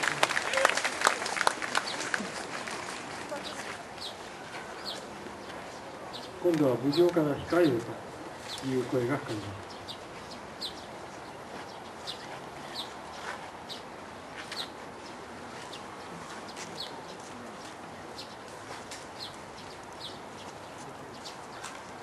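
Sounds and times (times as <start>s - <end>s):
outdoor crowd murmur: 0.0s - 22.0s
small birds chirping: 1.8s - 22.0s.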